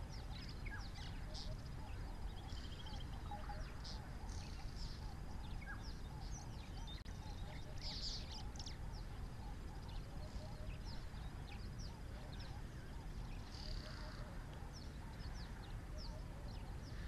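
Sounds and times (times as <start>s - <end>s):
wild birds chirping: 0.0s - 17.0s.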